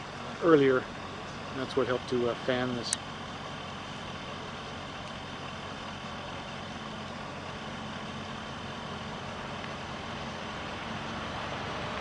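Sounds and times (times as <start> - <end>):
constant hiss: 0.0 - 12.0
engine idling: 0.0 - 12.0.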